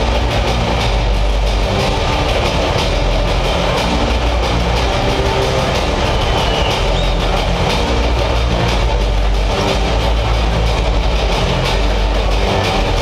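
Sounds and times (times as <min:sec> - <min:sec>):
deep bass rumble: 0:00.0 - 0:13.0
music over arena loudspeakers: 0:00.0 - 0:13.0.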